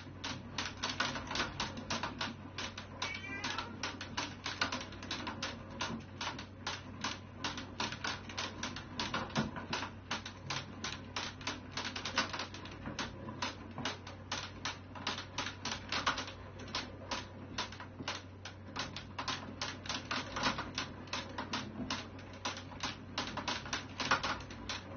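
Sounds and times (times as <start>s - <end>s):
exercise wheel clicking: 0.0s - 24.9s.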